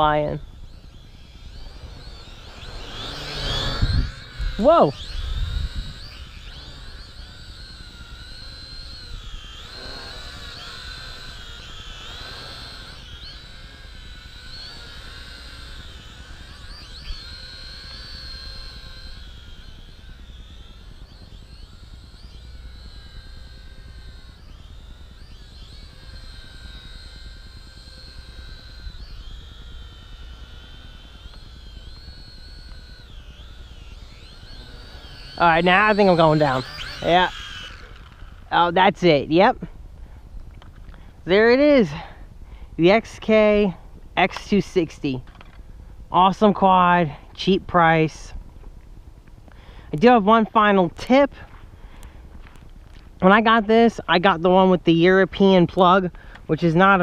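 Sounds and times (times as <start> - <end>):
quadcopter motors whining: 0.0 - 57.0.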